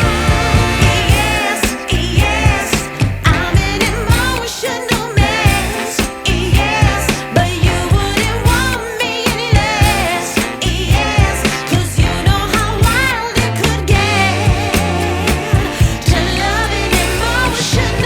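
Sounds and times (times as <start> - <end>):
music with steady beat: 0.0 - 18.0
person singing: 0.0 - 18.0.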